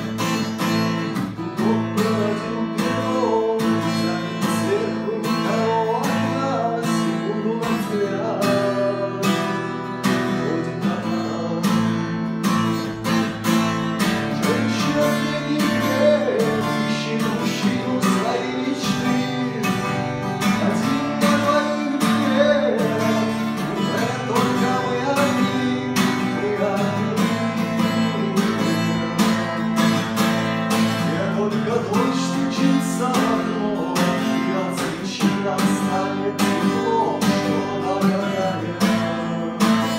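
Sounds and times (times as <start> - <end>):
acoustic guitar strumming chords: 0.0 - 39.9.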